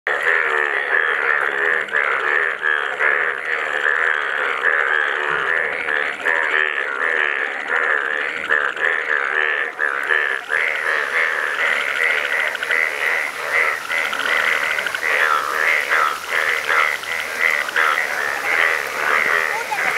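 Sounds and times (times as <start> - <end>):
chorus of croaking frogs: 0.1 - 19.9.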